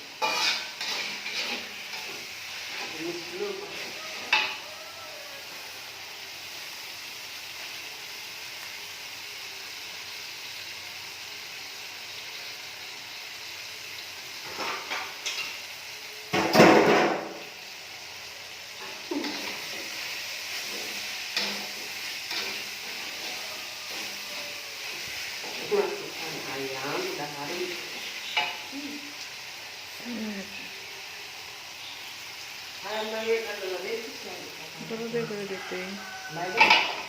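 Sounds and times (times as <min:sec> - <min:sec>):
paste sizzling in hot oil: 0:00.0 - 0:37.0.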